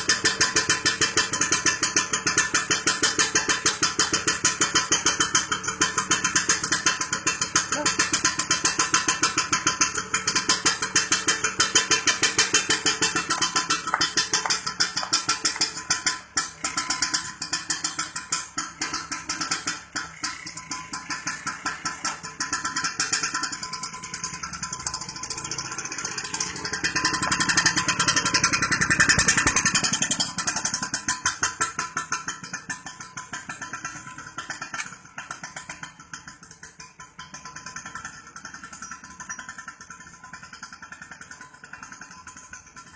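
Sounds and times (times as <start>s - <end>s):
two-stroke scooter engine: 0.0s - 42.9s.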